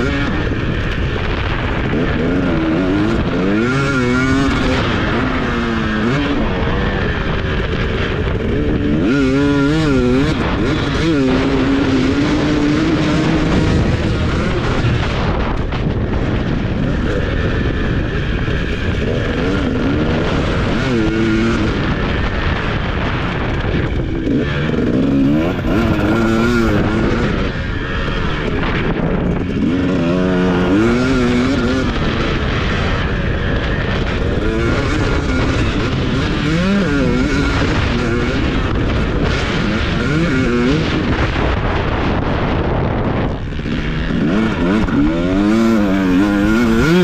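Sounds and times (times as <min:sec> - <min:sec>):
loud rushing noise: 0:00.0 - 0:47.0
motocross bike engine revving: 0:00.0 - 0:47.0.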